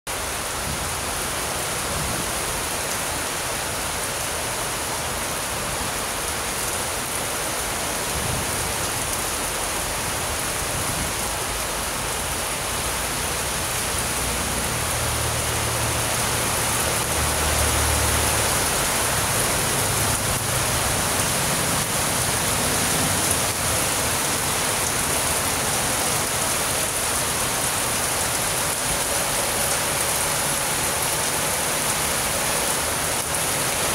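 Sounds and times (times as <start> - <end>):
heavy rain on foliage: 0.1 - 33.9.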